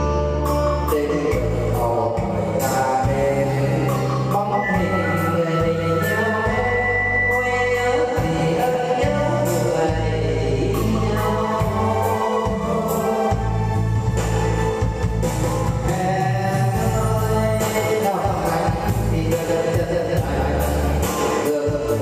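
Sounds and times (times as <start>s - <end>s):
person singing: 0.0s - 14.0s, 15.6s - 22.0s
backing track with bass and percussion: 0.0s - 22.0s.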